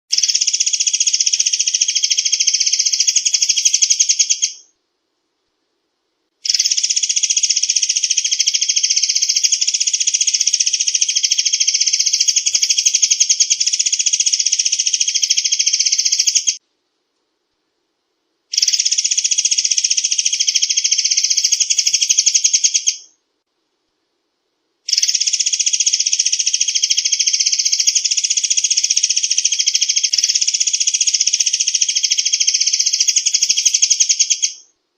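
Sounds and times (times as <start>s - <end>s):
bird song fast rattle: 0.1s - 4.7s, 6.4s - 16.6s, 18.5s - 23.1s, 24.9s - 34.7s.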